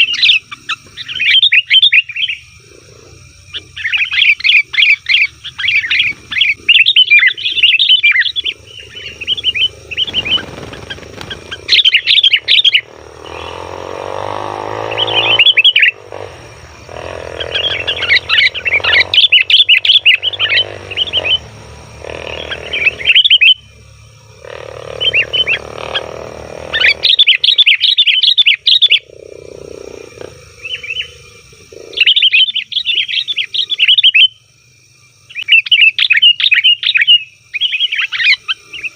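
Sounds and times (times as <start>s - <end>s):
bulbuls chattering chirps: 0.0s - 34.5s, 35.1s - 38.9s
soft low bird sounds: 0.0s - 38.9s.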